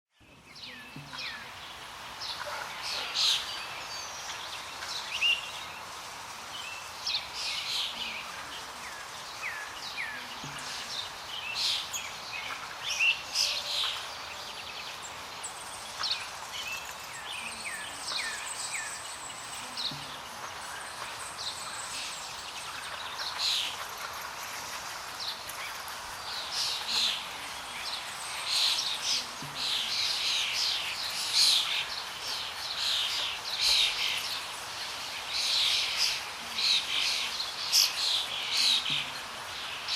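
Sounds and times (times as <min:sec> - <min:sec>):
birds chirping: 0:00.1 - 0:39.9
steady background hiss: 0:00.2 - 0:39.9.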